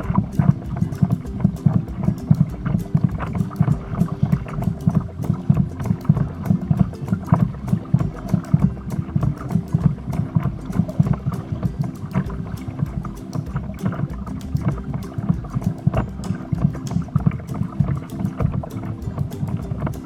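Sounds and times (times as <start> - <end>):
water slapping against a hull: 0.0 - 20.0
wind buffeting microphone: 0.0 - 20.0.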